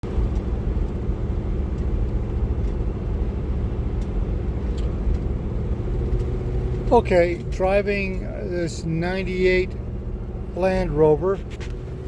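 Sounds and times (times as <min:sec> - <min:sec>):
engine and road rumble in cab: 0:00.0 - 0:12.0.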